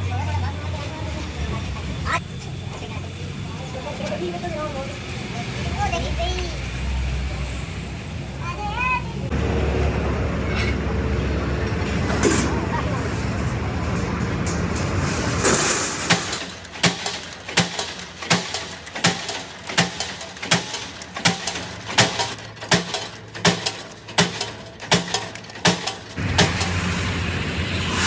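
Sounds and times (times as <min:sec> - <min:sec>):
steady machine noise: 0:00.0 - 0:28.0.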